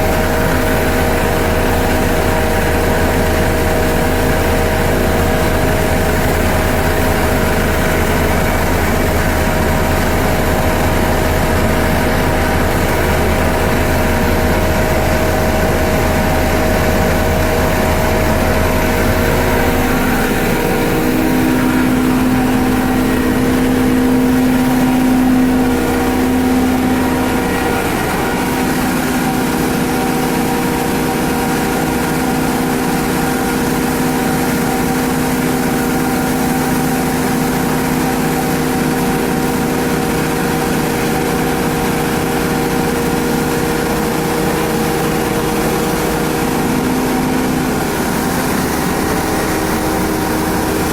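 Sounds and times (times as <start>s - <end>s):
grinding mill and sifter hum: 0.0s - 50.9s.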